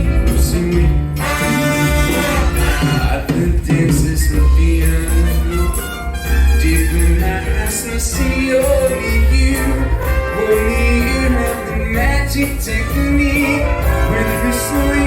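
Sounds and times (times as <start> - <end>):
big band swing music: 0.0 - 15.0.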